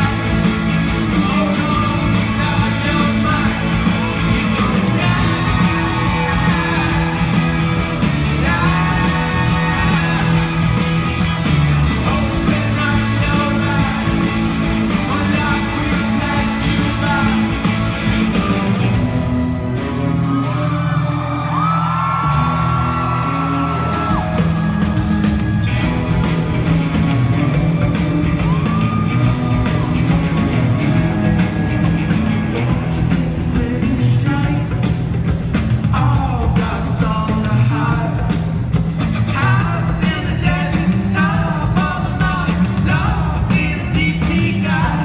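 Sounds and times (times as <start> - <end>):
drums: 0.0 - 45.0
live rock band playing: 0.0 - 45.0.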